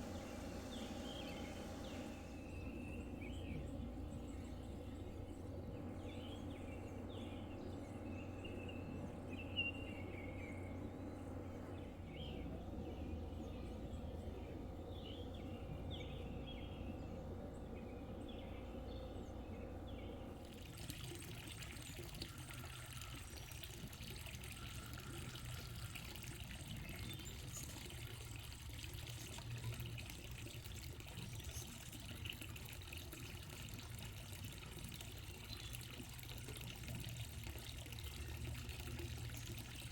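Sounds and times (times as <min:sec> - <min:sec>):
faint trickle of running water: 0:00.0 - 0:39.9.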